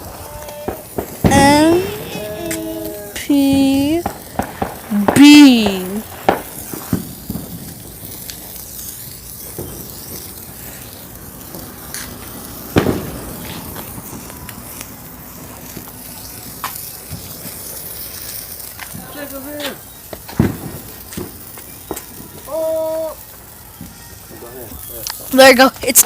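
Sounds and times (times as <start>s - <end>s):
firework crackles: 0.0s - 26.0s
firework hissing and sputtering: 0.0s - 26.0s.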